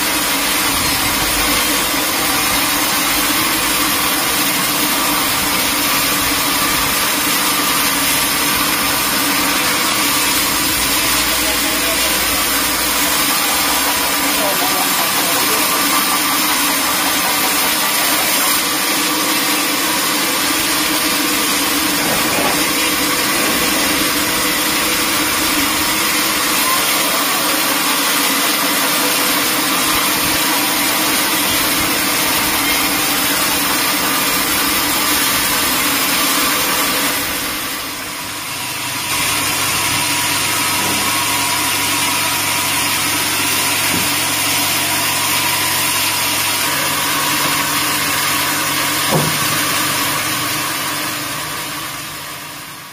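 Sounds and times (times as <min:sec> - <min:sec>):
band saw cutting log: 0:00.0 - 0:52.9.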